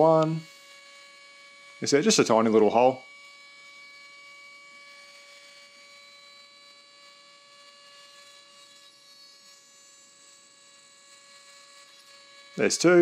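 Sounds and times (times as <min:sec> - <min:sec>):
rotary tool drilling whine: 0:00.0 - 0:13.0.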